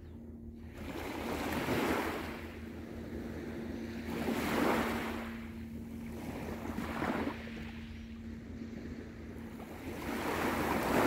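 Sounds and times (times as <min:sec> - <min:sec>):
small waves breaking on shore: 0:00.5 - 0:11.0.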